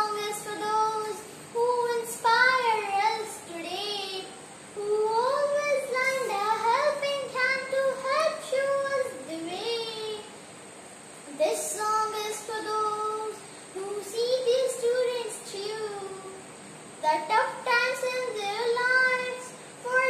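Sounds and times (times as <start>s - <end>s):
girl singing: 0.0s - 10.4s, 11.3s - 20.0s.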